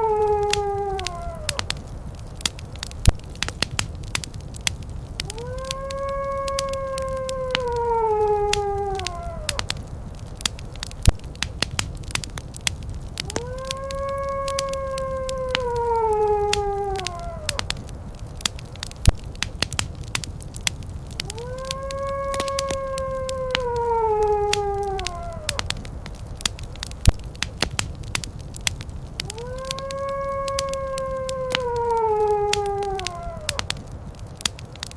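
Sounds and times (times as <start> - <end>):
wolf howling: 0.0 - 33.9
fire crackling and popping: 0.0 - 34.9.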